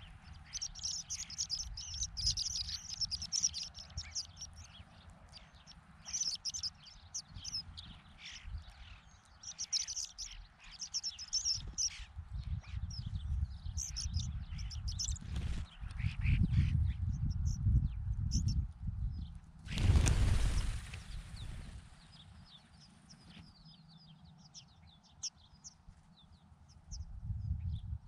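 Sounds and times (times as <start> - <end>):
birds chirping and twittering: 0.0 - 28.0.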